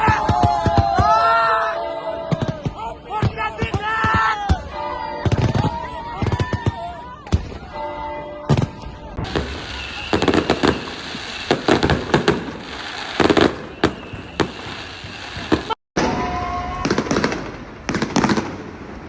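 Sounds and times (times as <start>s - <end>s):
fireworks bangs and crackles: 0.0s - 1.5s, 2.1s - 19.0s.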